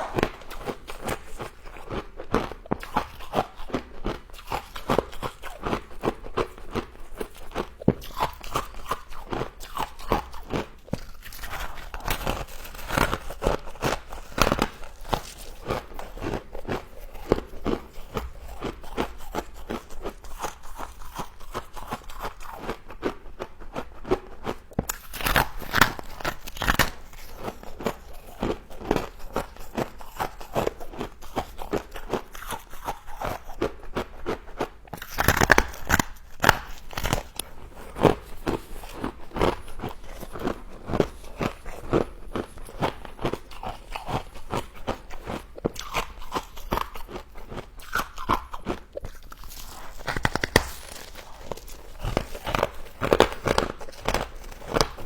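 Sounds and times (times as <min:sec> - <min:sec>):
frost crunching when chewed: 0:00.0 - 0:55.0.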